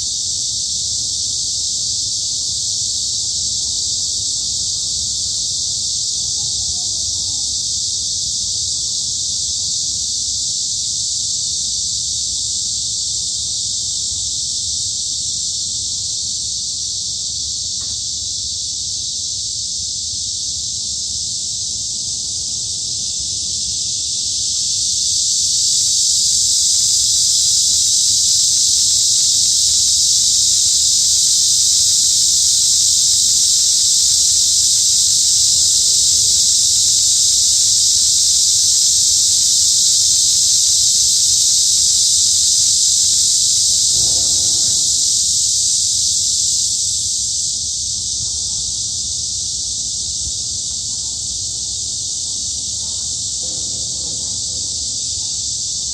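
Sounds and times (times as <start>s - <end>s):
cicadas buzzing: 0.0s - 55.9s.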